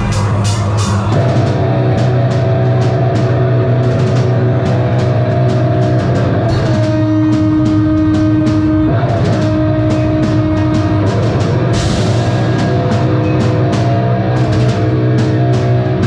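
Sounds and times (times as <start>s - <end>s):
distorted electric guitars: 0.0s - 16.0s
drumming: 0.0s - 16.0s.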